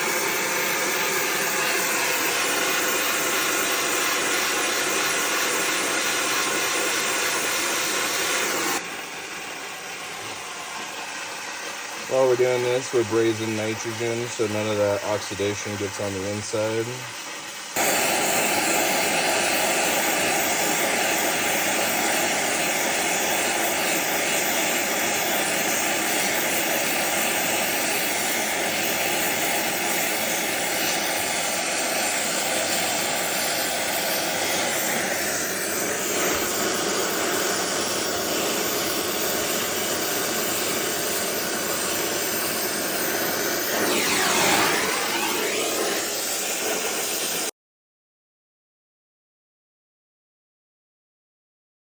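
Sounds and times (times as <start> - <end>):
torch flame hissing: 0.0 - 47.5.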